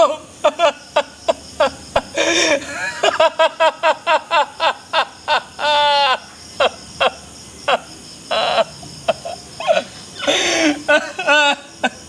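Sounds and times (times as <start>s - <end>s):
man sobbing and wailing: 0.0s - 12.0s.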